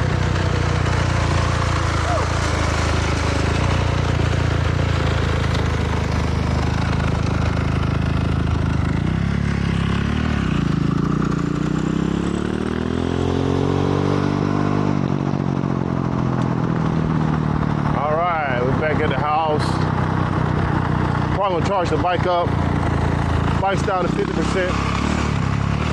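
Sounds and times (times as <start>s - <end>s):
dirt bike engine running: 0.0s - 25.9s.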